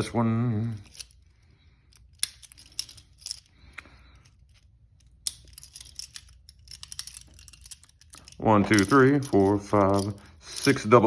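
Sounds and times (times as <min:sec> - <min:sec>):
handcuffs clinking: 0:00.0 - 0:11.0
handcuffs clicking: 0:00.6 - 0:11.0.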